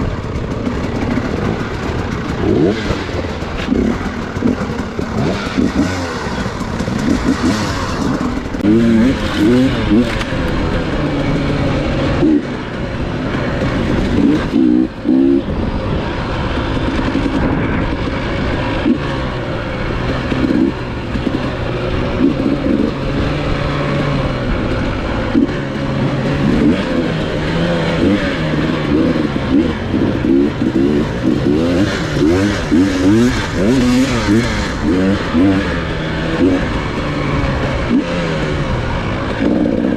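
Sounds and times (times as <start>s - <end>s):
dirt bike engine revving: 0.0s - 39.9s
rushing wind: 0.0s - 39.9s
terrain noise: 0.0s - 39.9s.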